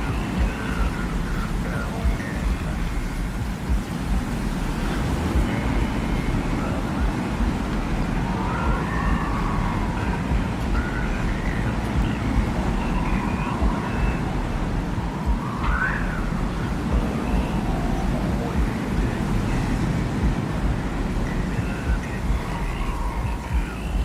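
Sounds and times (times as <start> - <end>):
deep wind rumble: 0.0 - 24.0
wind whistling: 0.0 - 24.0.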